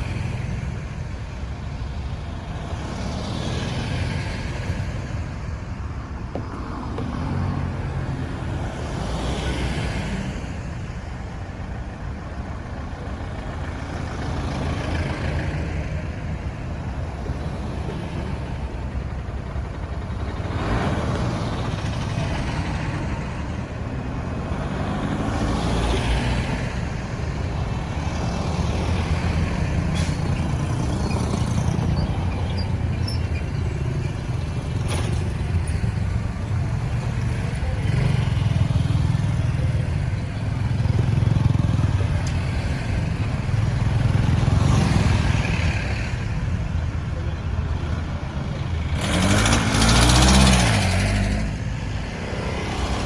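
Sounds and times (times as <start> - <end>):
traffic engine rumble: 0.0 - 53.0
vehicles passing: 0.0 - 53.0.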